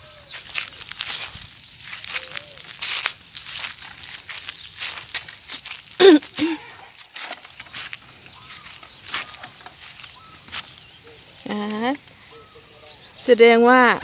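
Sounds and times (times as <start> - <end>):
dry pods crackling and rustling: 0.0 - 14.0.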